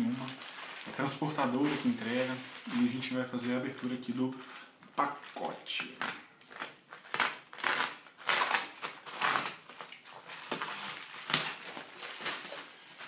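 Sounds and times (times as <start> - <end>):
plastic mailer crinkling and tearing: 0.0 - 13.0.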